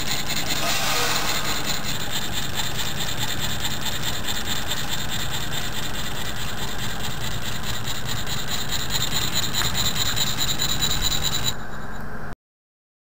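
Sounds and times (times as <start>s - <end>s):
stirling engine mechanical clatter: 0.0s - 11.6s.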